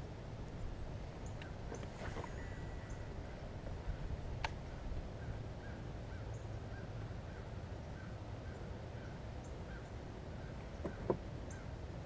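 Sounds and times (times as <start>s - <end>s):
distant birds calling: 0.0s - 12.0s
low steady rumble: 0.0s - 12.0s.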